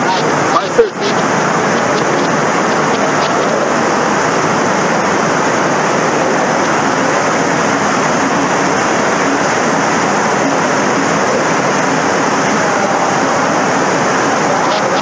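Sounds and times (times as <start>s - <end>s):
floodwater rushing: 0.0s - 15.0s
heavy rain: 0.0s - 15.0s.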